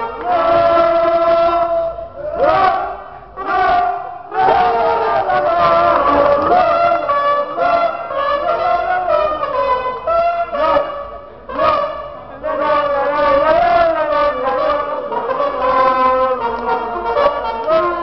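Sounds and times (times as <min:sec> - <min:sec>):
trumpet playing a tune: 0:00.0 - 0:18.0.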